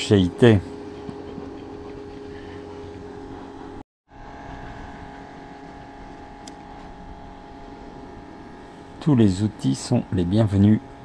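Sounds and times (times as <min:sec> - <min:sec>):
steady engine hum: 0:00.0 - 0:11.0.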